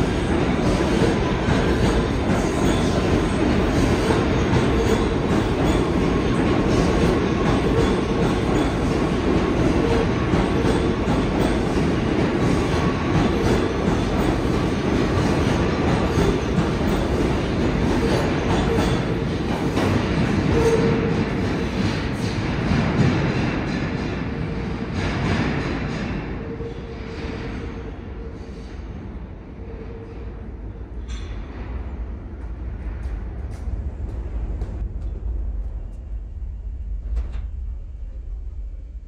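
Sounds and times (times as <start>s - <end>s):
subway train wheels rumbling: 0.0s - 39.0s.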